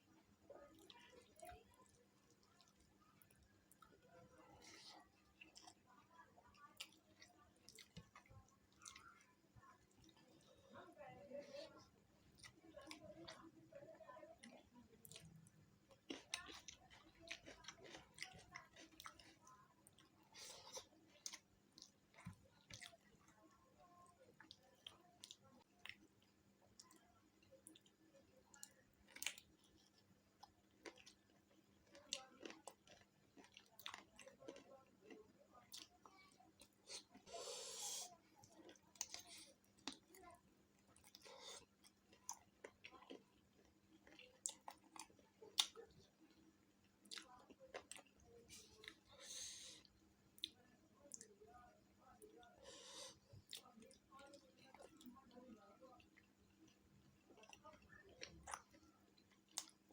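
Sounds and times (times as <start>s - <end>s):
chewing: 0.4s - 10.8s, 11.4s - 13.6s, 14.4s - 51.4s, 52.2s - 59.9s.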